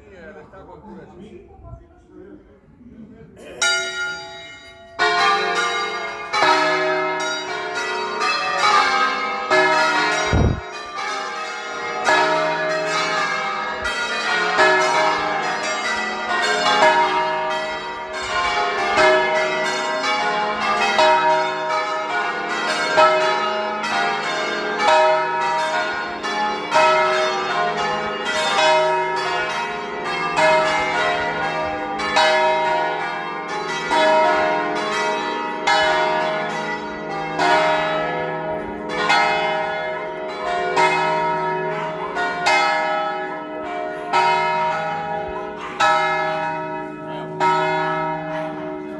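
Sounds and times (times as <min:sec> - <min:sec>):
church bells ringing: 0:03.6 - 0:48.9.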